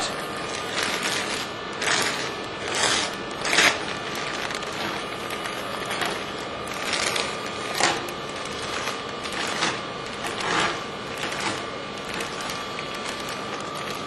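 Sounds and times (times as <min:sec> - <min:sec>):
plastic tubing crinkling: 0:00.0 - 0:14.0.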